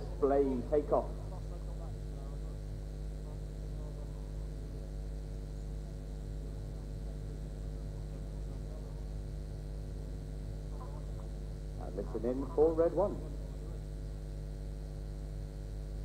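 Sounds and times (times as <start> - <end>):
faint crowd chatter: 0.0 - 14.4
steady low hum: 0.0 - 16.0.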